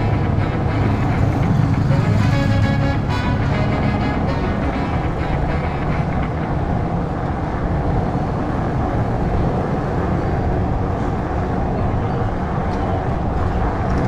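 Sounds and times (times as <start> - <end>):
motorcycles: 0.0 - 14.0
street traffic rumble: 0.0 - 14.0.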